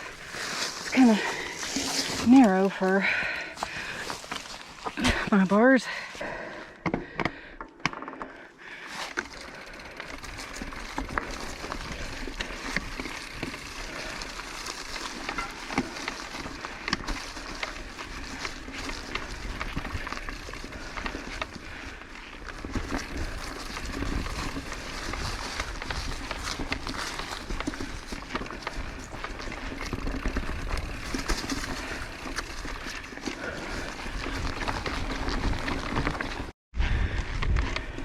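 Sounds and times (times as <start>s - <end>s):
bike clicks and rattles: 0.0s - 5.3s, 6.7s - 38.0s
bike tyres rumbling on dirt: 0.0s - 7.5s, 8.2s - 38.0s.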